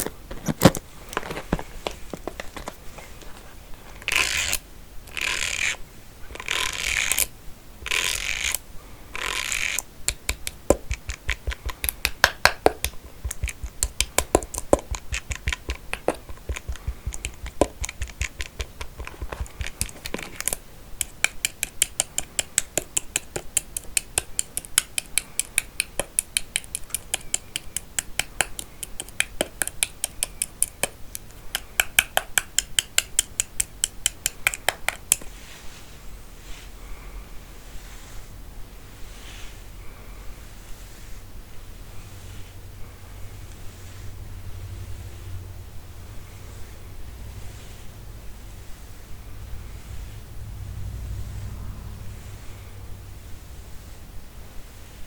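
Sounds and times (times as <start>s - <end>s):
comb scratchy strokes: 0.9s - 31.8s, 32.8s - 45.5s, 46.2s - 55.0s.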